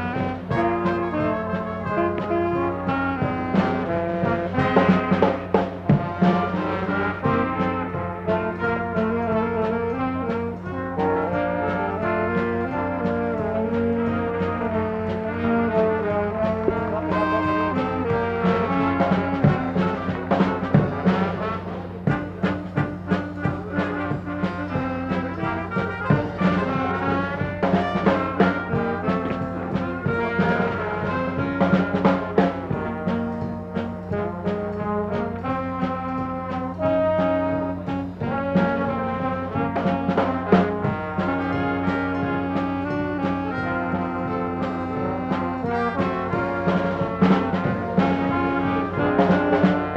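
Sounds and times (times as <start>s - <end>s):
drum strikes: 0.0s - 49.9s
trombones and trumpets: 0.0s - 49.9s.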